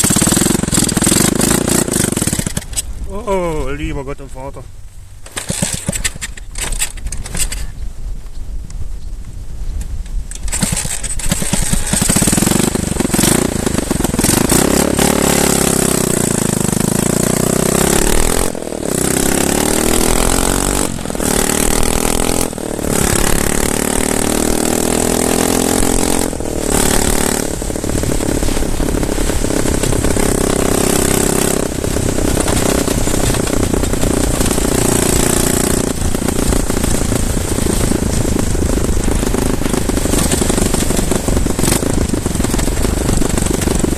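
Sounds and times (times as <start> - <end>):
motorcycle engine revving: 0.0 - 4.5, 5.2 - 7.6, 10.3 - 43.9.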